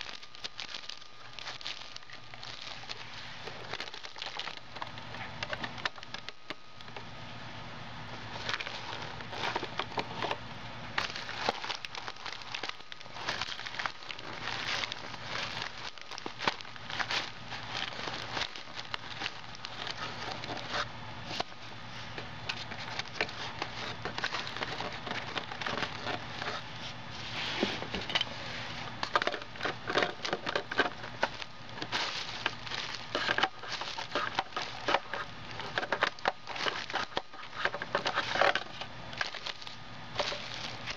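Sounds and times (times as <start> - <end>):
paper and plastic crinkling: 0.0 - 6.9, 8.2 - 40.9.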